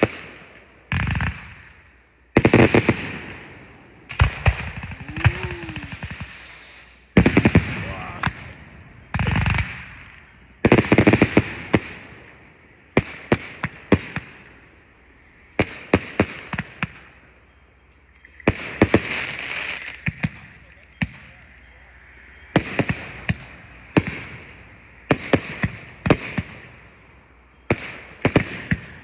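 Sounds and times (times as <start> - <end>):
firework launch shots: 0.0 - 14.6, 18.4 - 21.7, 22.4 - 29.0
sharp firework bangs: 0.0 - 14.6, 18.4 - 21.7, 22.3 - 29.0
crackling star bursts: 0.0 - 29.0.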